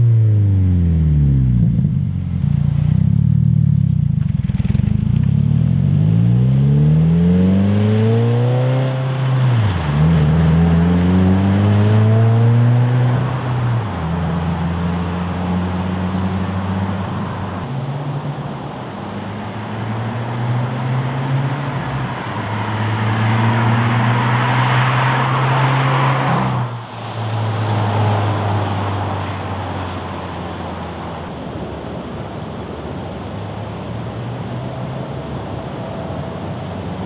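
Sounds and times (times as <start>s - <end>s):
car exhaust accelerating: 0.0s - 37.0s.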